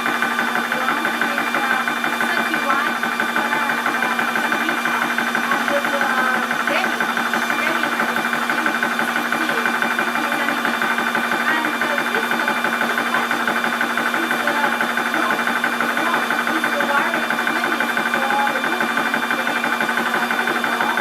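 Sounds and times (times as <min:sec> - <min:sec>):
air compressor pumping: 0:00.0 - 0:21.0.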